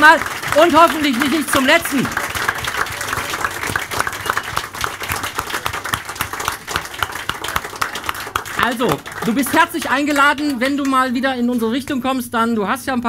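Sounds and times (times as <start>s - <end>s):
audience applause: 0.0s - 11.2s.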